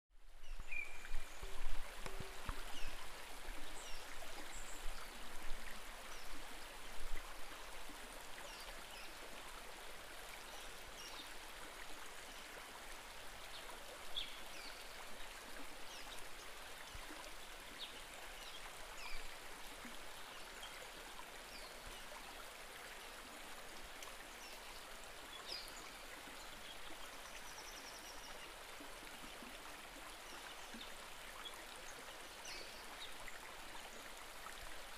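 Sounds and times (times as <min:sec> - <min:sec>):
stream water rushing over rocks: 0:00.4 - 0:34.9.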